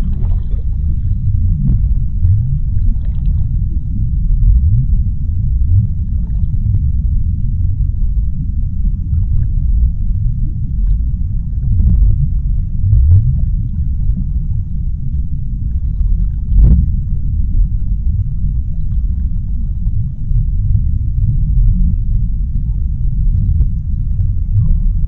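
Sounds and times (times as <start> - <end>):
deep underwater rumble: 0.0 - 25.0.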